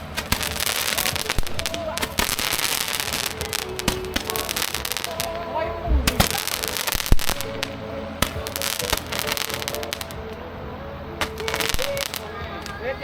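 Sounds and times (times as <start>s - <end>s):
fireworks popping and crackling: 0.0s - 10.5s, 11.2s - 13.0s.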